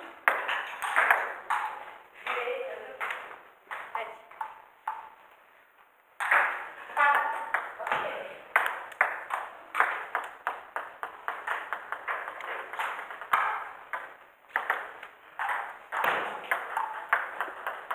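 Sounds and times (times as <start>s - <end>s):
table tennis balls clicking: 0.0s - 5.4s, 6.2s - 17.9s.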